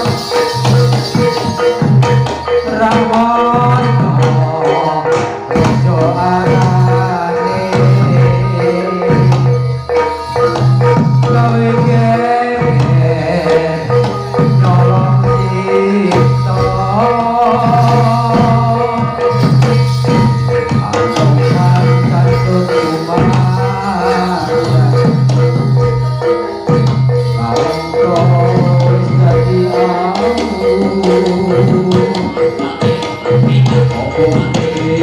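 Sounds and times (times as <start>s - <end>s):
metallophones: 0.0s - 35.0s
person singing: 0.0s - 35.0s.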